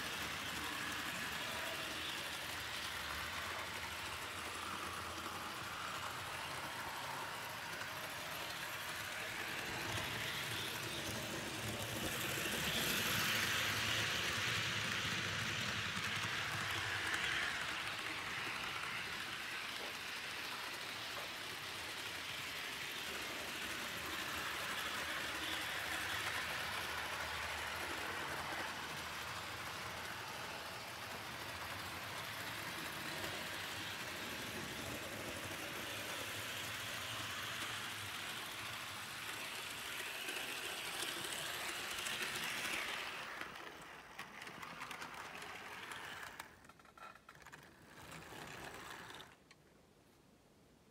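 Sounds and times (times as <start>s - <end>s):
model train whirring and rattling: 0.0s - 49.7s.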